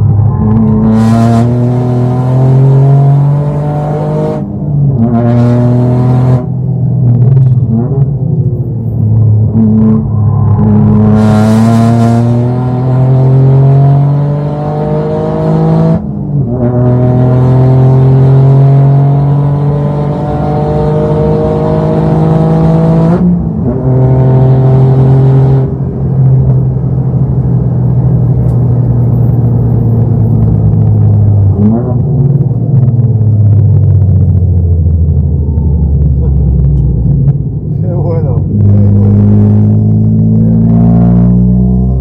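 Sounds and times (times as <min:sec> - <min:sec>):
car engine accelerating through gears: 0:00.0 - 0:42.0.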